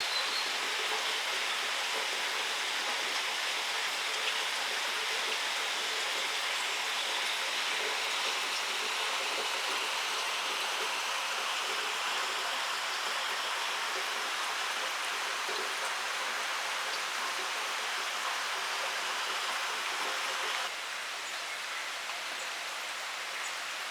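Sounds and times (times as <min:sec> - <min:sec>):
steady rain in a forest: 0:00.0 - 0:23.9.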